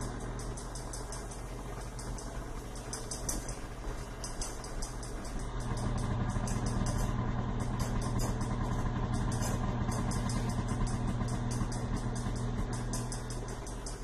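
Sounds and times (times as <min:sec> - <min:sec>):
stand mixer motor humming: 0:00.0 - 0:14.0.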